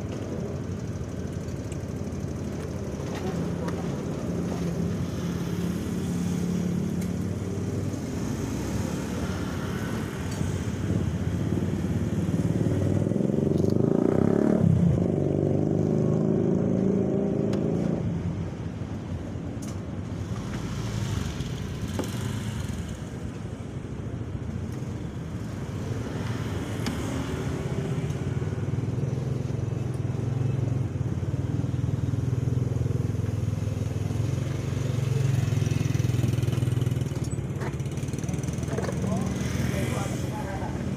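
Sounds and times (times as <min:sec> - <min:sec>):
motorcycle engines passing: 0:00.0 - 0:40.9.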